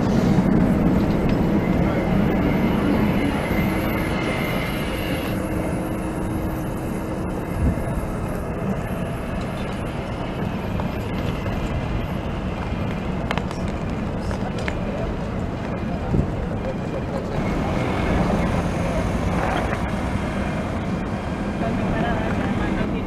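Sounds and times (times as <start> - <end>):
tram arriving slowly: 0.0 - 23.0
tram running past with whine: 0.0 - 23.0.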